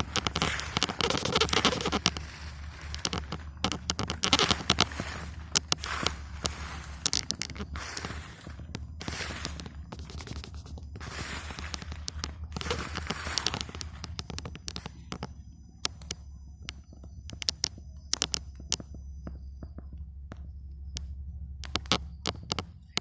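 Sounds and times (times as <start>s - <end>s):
campfire crackling and popping: 0.0s - 18.9s
steady low rumble: 0.0s - 23.0s.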